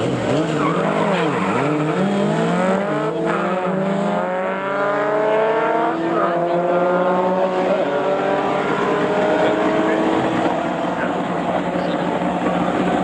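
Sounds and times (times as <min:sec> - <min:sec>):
car engines accelerating: 0:00.0 - 0:13.0.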